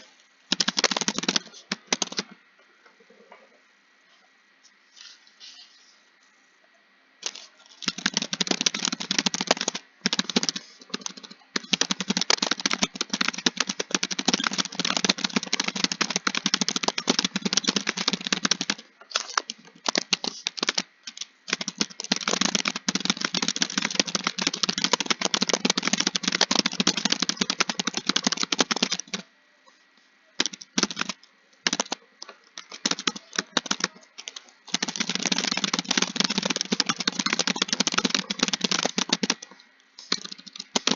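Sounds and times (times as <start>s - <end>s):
fast keyboard typing: 0.0s - 2.4s, 7.2s - 29.2s, 30.4s - 40.9s.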